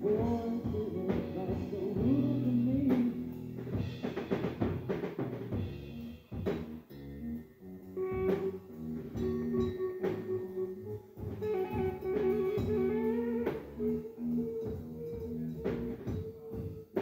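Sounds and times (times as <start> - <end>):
electric guitar bending notes: 0.0 - 17.0
rock band playing: 0.0 - 17.0.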